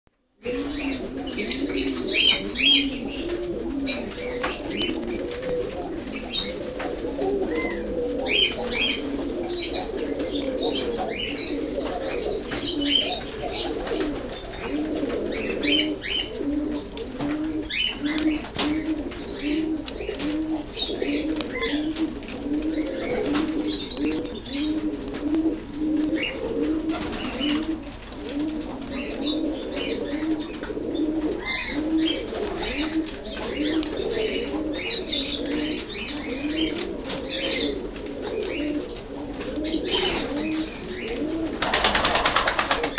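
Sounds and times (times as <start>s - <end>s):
pigeons cooing: 0.4s - 42.9s.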